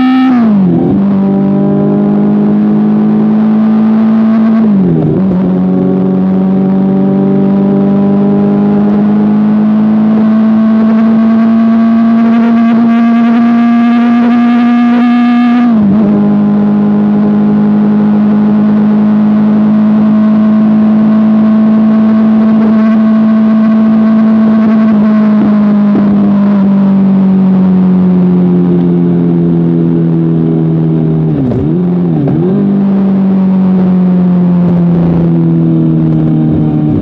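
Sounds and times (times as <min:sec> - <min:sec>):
motorcycle engine at high revs: 0:00.0 - 0:37.0.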